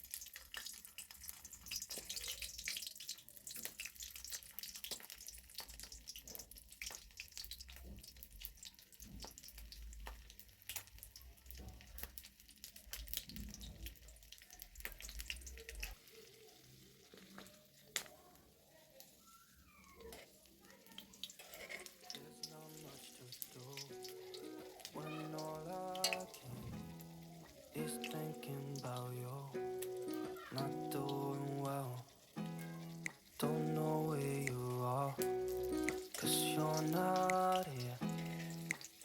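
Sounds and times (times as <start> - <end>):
food sizzling and popping: 0.0 - 39.0.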